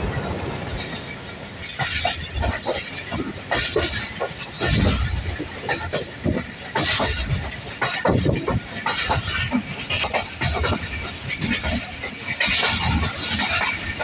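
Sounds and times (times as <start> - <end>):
train rumble and hiss: 0.0 - 14.0
wheels knocking on rail joints: 0.0 - 14.0.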